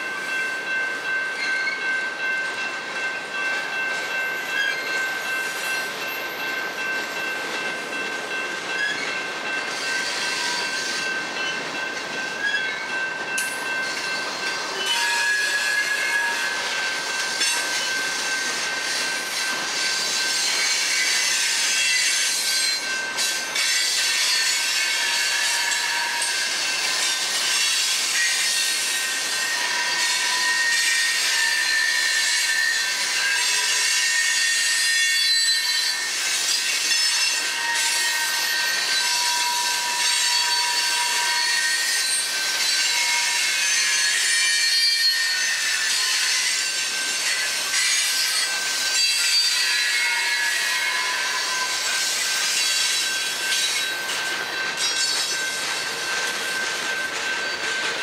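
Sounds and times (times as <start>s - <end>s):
freight cars rolling on rails: 0.0s - 58.0s.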